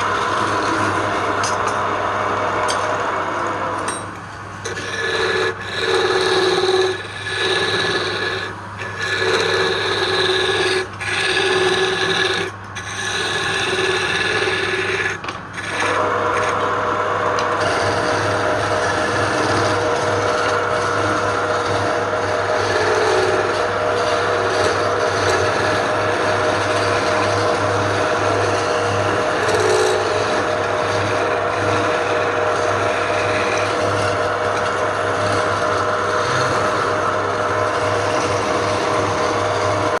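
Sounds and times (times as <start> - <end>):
power tool motor hum: 4.6 - 40.0
wood scraping: 4.7 - 16.6, 17.5 - 39.5.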